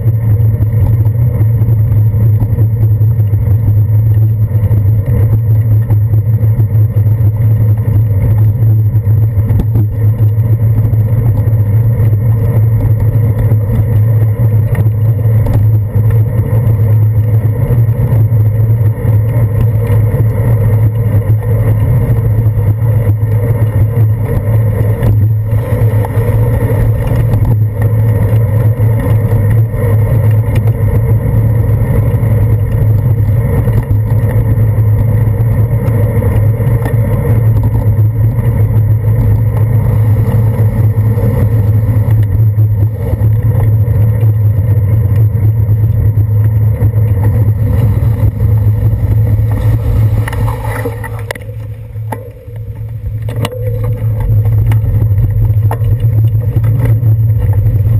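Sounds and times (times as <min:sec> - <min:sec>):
muffled wind and road rumble: 0:00.0 - 0:57.9.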